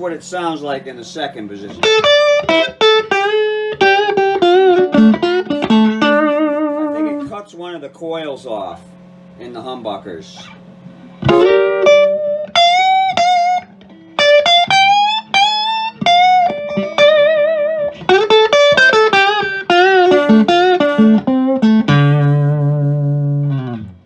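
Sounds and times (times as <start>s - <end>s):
electric guitar chord ringing: 0.0s - 7.4s, 8.6s - 24.0s
electric guitar lead lines: 0.0s - 24.0s.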